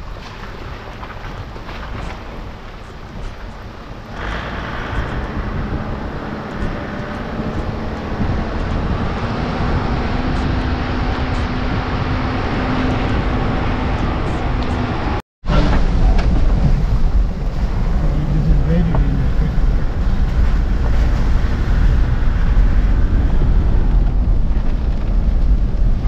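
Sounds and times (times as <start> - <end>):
tyre and wind noise: 0.0 - 26.0
vehicle engine humming: 2.1 - 26.0.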